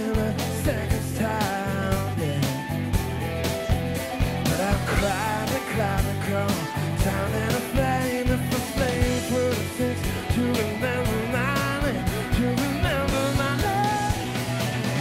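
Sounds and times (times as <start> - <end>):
bass: 0.0 - 15.0
drum beat: 0.0 - 15.0
electric guitar lead: 0.0 - 15.0.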